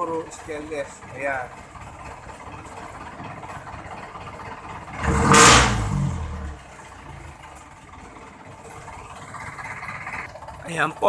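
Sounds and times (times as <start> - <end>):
diesel engine idling and revving: 0.0 - 11.0.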